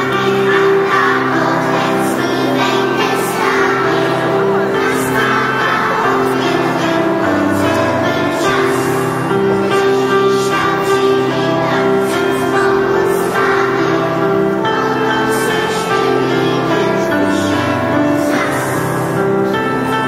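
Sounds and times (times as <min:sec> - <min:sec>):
instrumental backing of held notes: 0:00.0 - 0:20.0
people singing: 0:00.0 - 0:20.0.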